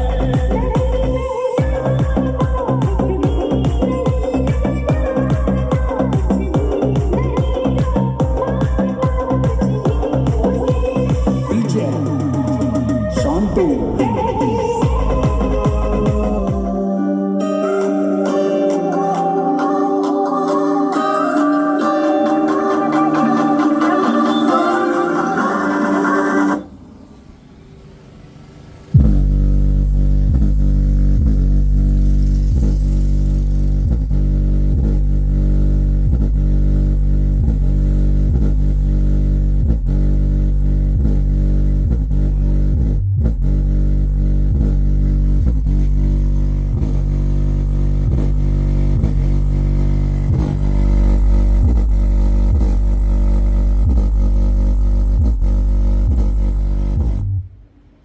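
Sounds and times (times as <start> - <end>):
bass-heavy music through woofer: 0.0 - 26.6, 28.9 - 57.6.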